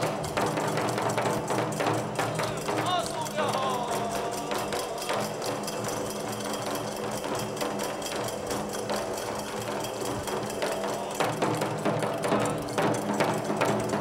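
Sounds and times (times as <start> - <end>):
small hand cymbals: 0.0 - 14.0
taiko drum beat: 0.0 - 14.0.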